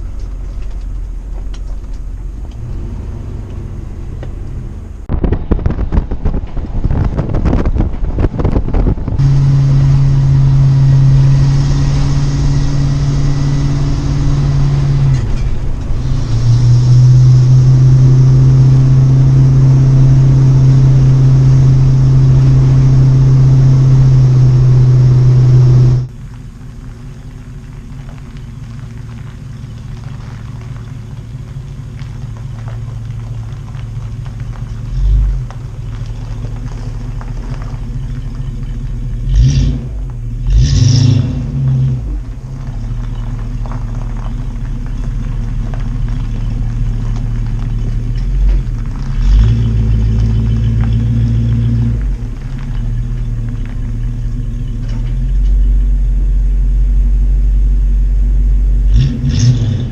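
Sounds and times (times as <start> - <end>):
motorhome engine drone: 0.0 - 59.9.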